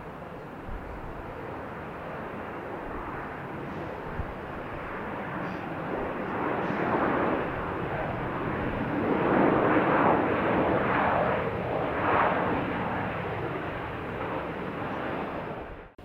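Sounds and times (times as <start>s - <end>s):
jet airliner flying past: 0.0s - 16.0s.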